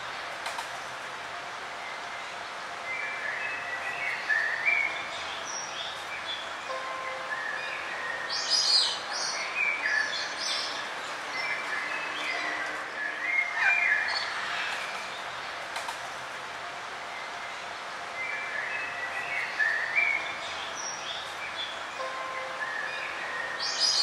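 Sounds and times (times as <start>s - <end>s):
steady background hiss: 0.0s - 24.0s
birds chirping and trilling: 1.8s - 16.3s, 17.1s - 24.0s.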